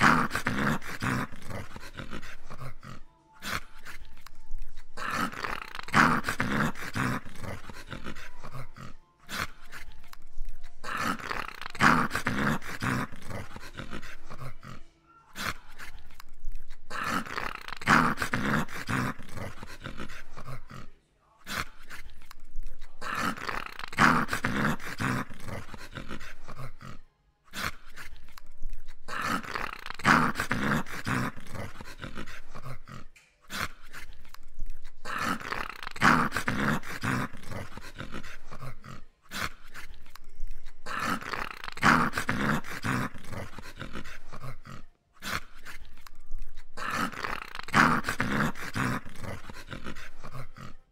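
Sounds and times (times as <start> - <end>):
dog growling: 0.0 - 50.9.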